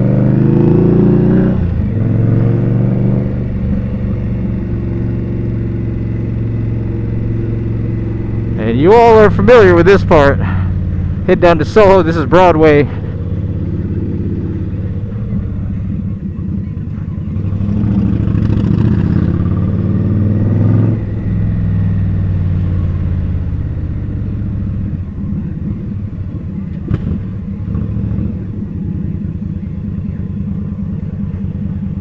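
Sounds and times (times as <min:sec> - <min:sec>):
city traffic: 0:00.0 - 0:32.0
motorcycle engine running: 0:00.0 - 0:32.0.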